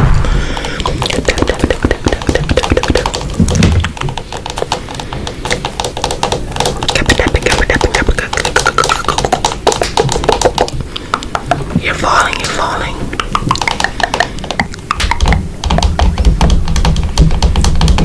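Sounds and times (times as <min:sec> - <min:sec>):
rapid irregular tapping and clicking: 0:00.0 - 0:18.0.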